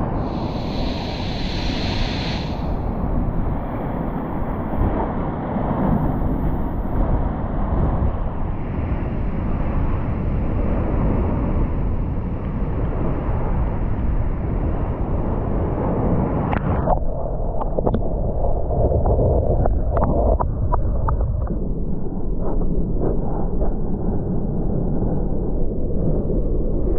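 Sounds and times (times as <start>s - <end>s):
wind rumbling on microphone: 0.0s - 26.9s.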